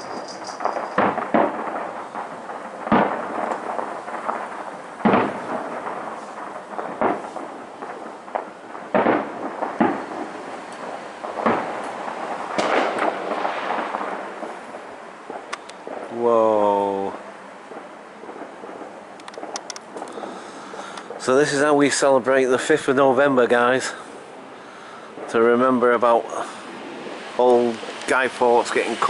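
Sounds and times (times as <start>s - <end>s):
fireworks bangs: 0.0s - 29.0s
fireworks crackling and rumbling: 0.0s - 29.0s.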